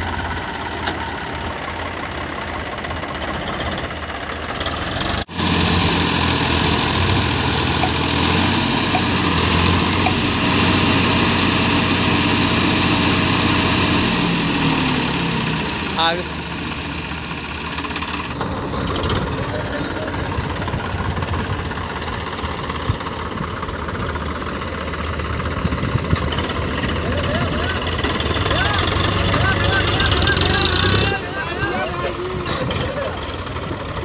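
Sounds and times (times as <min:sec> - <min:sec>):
tractor diesel engines: 0:00.0 - 0:34.0.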